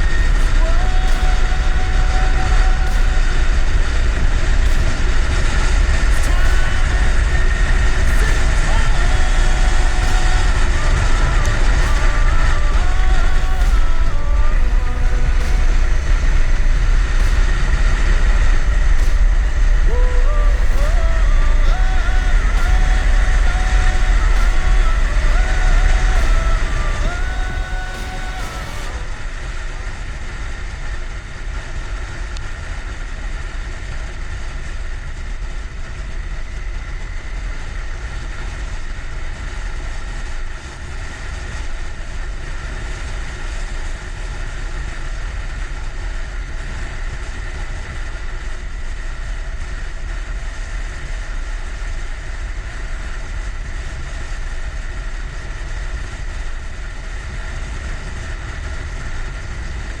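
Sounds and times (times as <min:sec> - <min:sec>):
wind rumble on microphone: 0:00.0 - 1:00.0.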